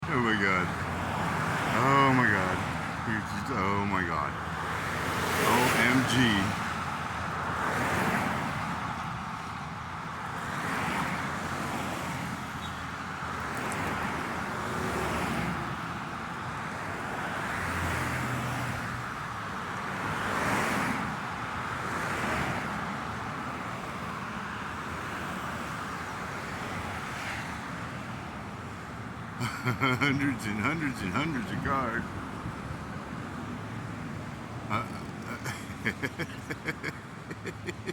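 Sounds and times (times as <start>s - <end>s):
cars passing: 0.0s - 37.9s.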